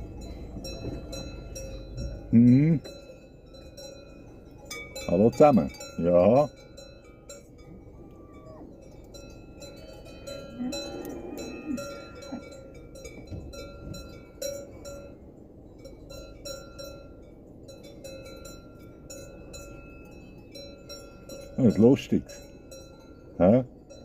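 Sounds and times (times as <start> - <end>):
cowbells clanking: 0.0 - 24.0.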